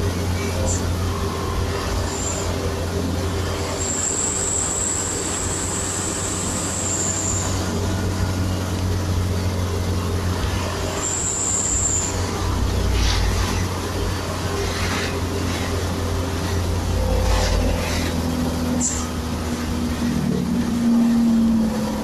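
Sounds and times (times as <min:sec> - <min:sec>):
road noise: 0:00.0 - 0:22.0
thin high whine: 0:00.0 - 0:22.0
vehicle engine drone: 0:00.0 - 0:22.0.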